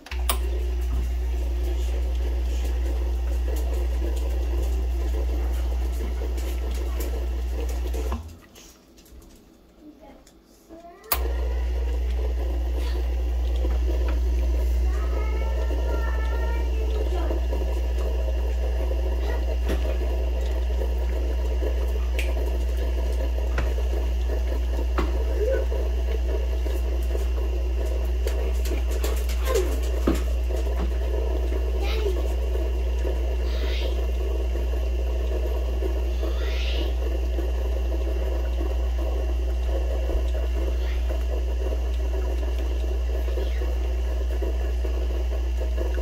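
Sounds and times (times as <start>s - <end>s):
espresso machine pump buzzing: 0.0s - 46.0s.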